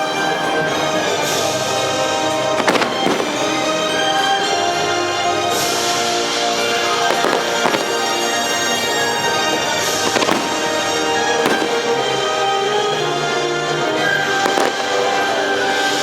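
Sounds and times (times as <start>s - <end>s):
fireworks bangs: 0.0s - 16.0s
orchestral music: 0.0s - 16.0s.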